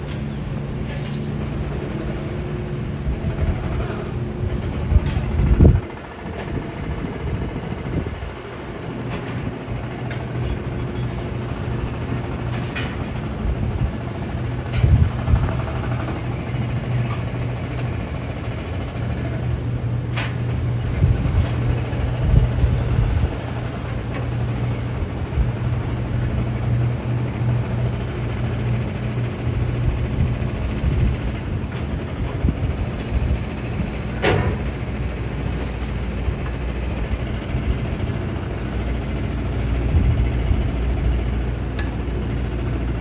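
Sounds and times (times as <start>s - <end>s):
low machinery hum: 0.0s - 43.0s.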